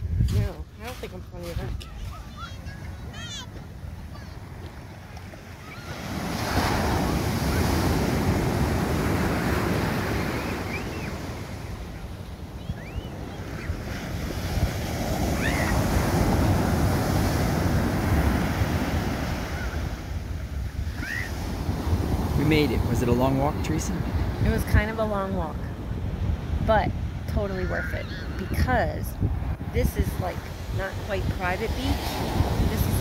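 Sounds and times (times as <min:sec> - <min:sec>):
ocean surf washing on beach: 0:00.0 - 0:33.0
wind buffeting microphone: 0:00.0 - 0:33.0.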